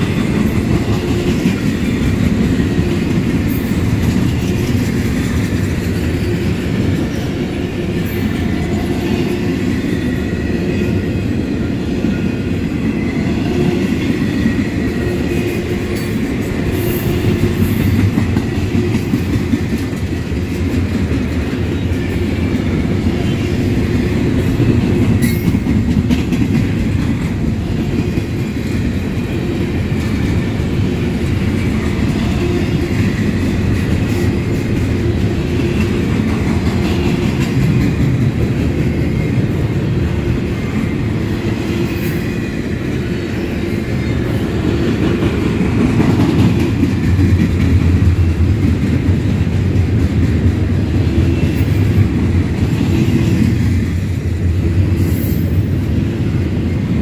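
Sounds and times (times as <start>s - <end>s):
freight train rumble: 0.0s - 57.0s.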